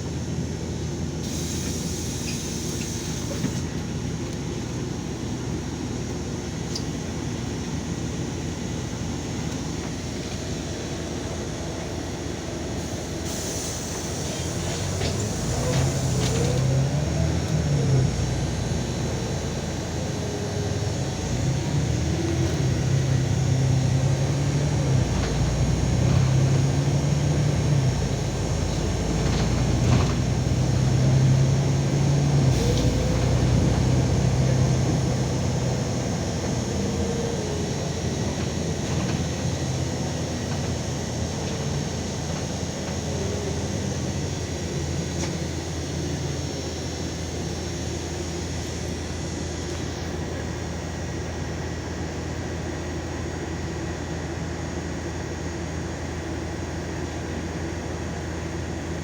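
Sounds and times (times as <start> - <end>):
bus engine drone: 0.0 - 59.0
road rumble: 0.0 - 59.0.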